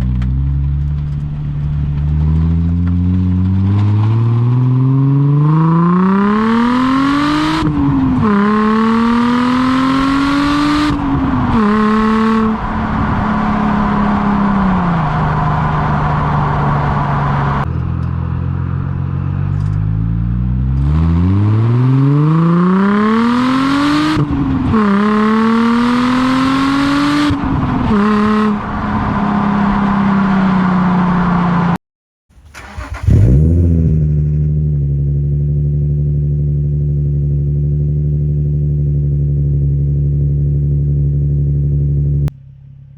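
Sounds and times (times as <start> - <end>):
car engine revving and idling: 0.0 - 31.8, 32.5 - 42.9.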